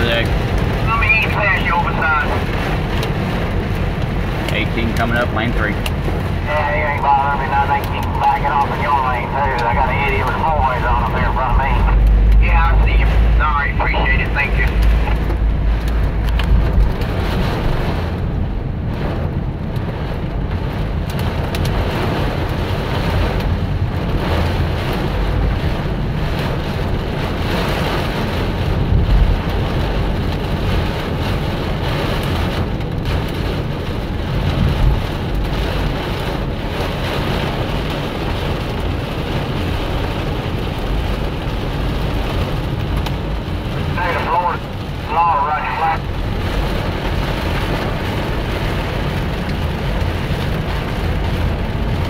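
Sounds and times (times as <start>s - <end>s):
rain and hail on car roof: 0.0s - 52.0s
road noise: 0.0s - 52.0s.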